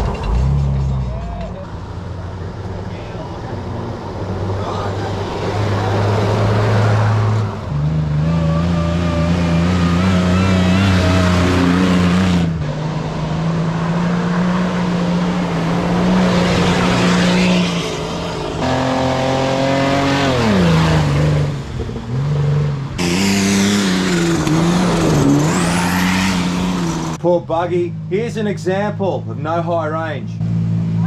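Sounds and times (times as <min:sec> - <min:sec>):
truck engines revving: 0:00.0 - 0:31.0.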